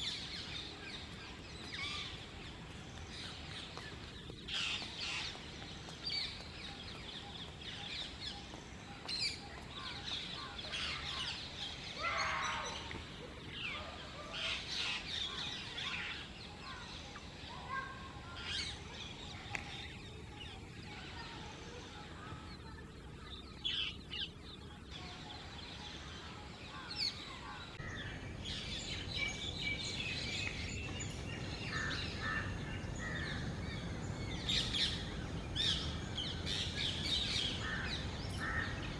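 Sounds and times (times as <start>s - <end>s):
birds calling and chirping: 0.0s - 38.9s
outdoor background noise: 0.0s - 38.9s.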